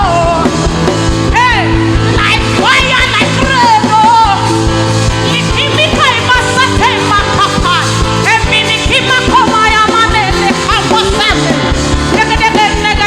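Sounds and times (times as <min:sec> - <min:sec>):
bass: 0:00.0 - 0:13.0
bending melodic lead line: 0:00.0 - 0:13.0
gospel band music: 0:00.0 - 0:13.0
steady drum beat: 0:00.0 - 0:13.0.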